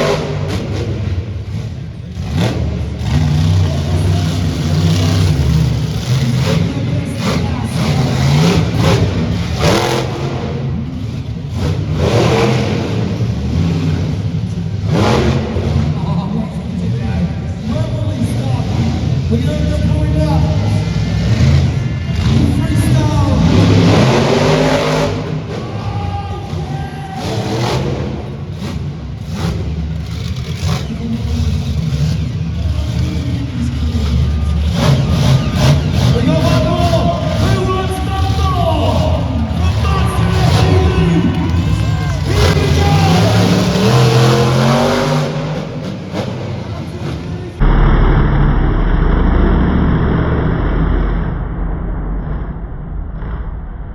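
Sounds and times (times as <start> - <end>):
truck engine revving loudly: 0.0 - 53.6.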